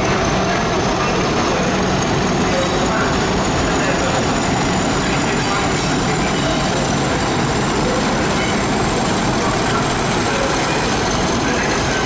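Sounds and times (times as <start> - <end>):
diesel locomotive engine rumble: 0.0 - 12.0
train wheels on rails: 0.0 - 12.0.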